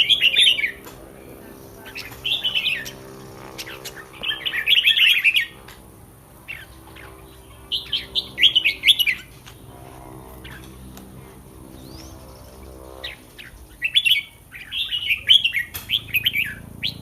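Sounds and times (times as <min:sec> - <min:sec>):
bulbul warbling song: 0:00.0 - 0:17.0.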